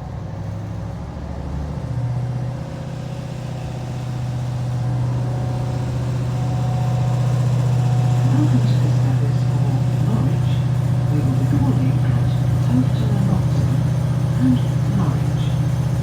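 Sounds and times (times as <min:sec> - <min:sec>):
train diesel engine droning: 0:00.0 - 0:16.0.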